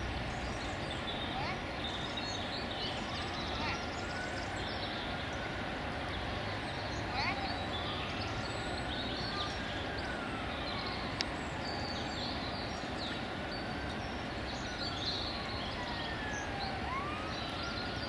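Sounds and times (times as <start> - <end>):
city traffic hum: 0.0 - 18.0
distant siren wailing: 0.0 - 18.0
small birds chirping: 0.0 - 18.0.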